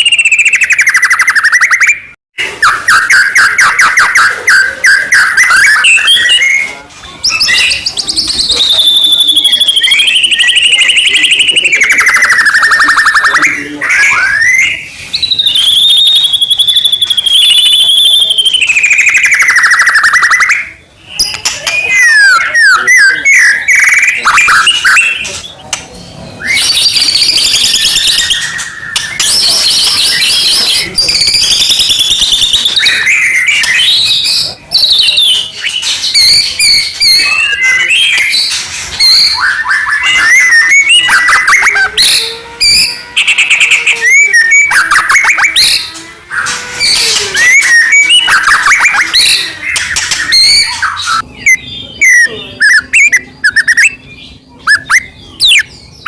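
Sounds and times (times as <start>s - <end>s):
songbird singing trills and whistles: 0.0s - 56.0s.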